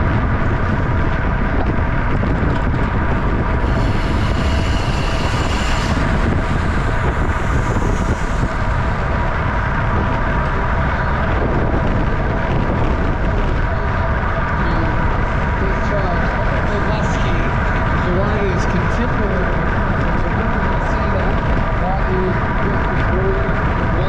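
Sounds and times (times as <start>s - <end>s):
faint tyre and drivetrain hum: 0.0s - 24.0s
wind rushing over microphone: 0.0s - 24.0s.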